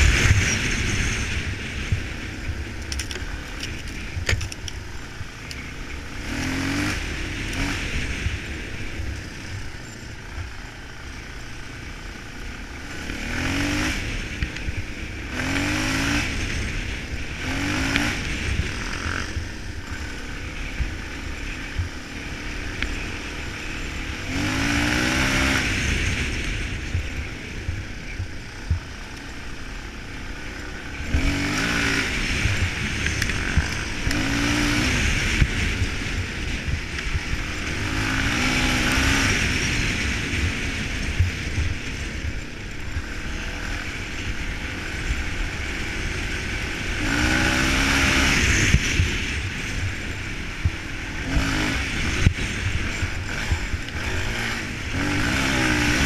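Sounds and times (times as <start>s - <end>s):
clatter: 0.0s - 11.7s, 12.6s - 56.0s
dirt bike engine revving: 0.0s - 56.0s
wind rumble on microphone: 0.0s - 56.0s.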